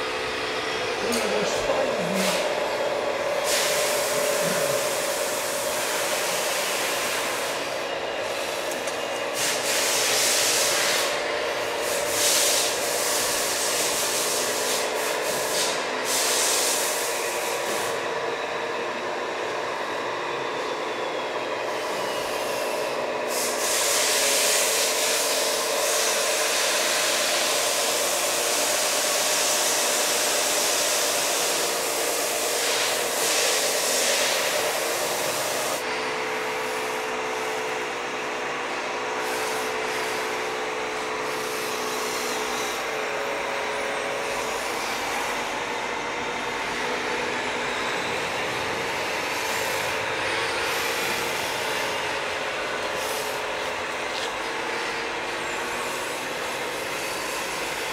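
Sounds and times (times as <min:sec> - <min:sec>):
hydraulic hissing: 0:00.0 - 0:18.4, 0:20.6 - 0:57.9
hydraulic pump whine: 0:00.0 - 0:57.9.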